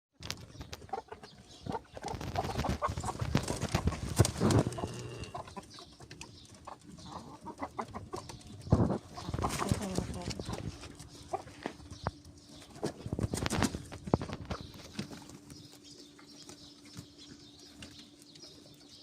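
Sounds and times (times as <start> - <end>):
chickens clucking: 0.2 - 19.0.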